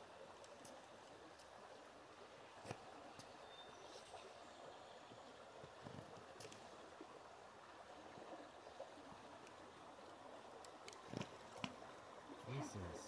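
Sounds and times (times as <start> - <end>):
faint stream rushing: 0.0 - 13.0.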